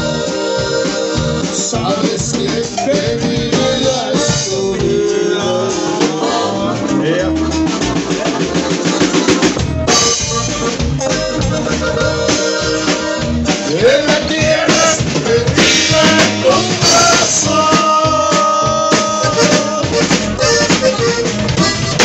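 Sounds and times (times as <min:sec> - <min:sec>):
accordion melody: 0:00.0 - 0:22.0
drum kit beat: 0:00.0 - 0:22.0.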